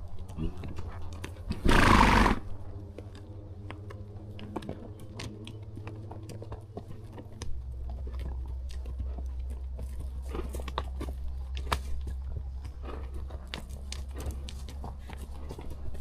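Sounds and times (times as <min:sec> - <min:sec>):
horse chewing: 0:00.0 - 0:16.0
steady low rumble: 0:02.4 - 0:16.0.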